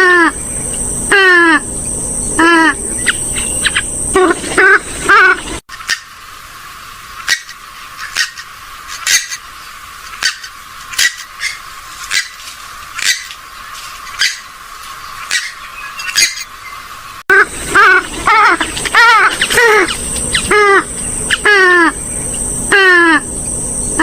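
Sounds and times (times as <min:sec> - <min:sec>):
waterbird calls: 0:02.4 - 0:23.3.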